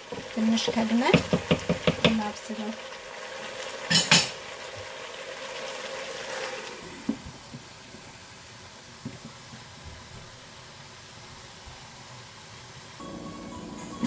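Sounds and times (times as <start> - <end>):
stew sizzling in pot: 0.0 - 14.0.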